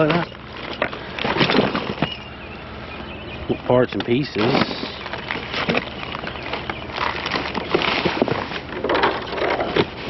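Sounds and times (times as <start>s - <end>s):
rustling of parts: 0.0s - 2.2s, 4.0s - 10.0s
parts knocking and clattering: 0.0s - 2.3s, 3.9s - 10.0s.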